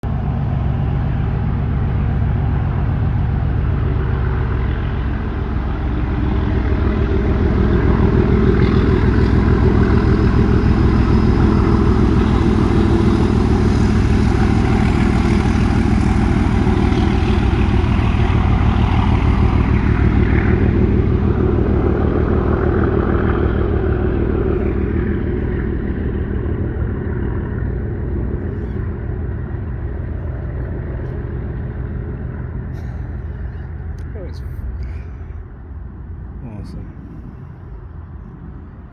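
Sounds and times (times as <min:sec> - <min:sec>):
diesel locomotive passing: 0:00.0 - 0:38.9.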